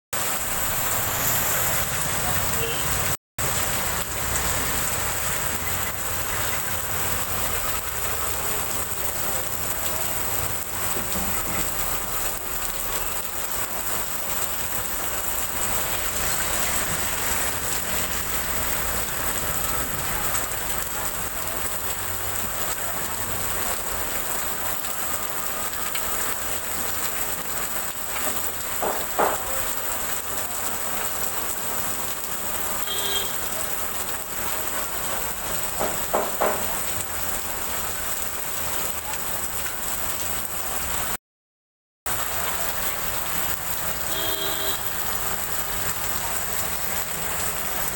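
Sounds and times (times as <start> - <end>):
heavy rain on a flooded street: 0.2 - 41.2, 42.1 - 47.9.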